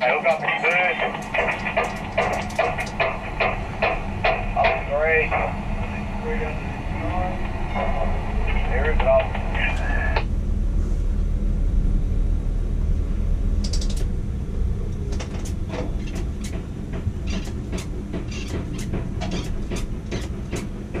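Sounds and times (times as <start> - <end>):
crane machinery rumble: 0.0 - 21.0.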